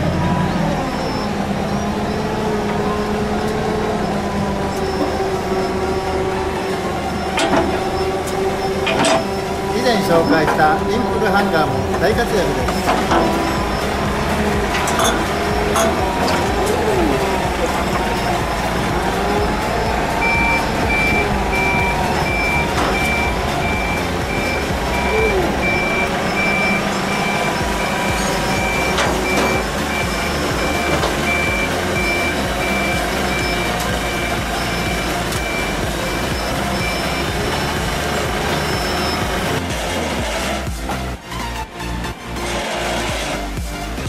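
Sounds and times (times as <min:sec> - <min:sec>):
forklift backup alarm beeping: 0:00.0 - 0:40.9
forklift engine running: 0:00.0 - 0:44.0.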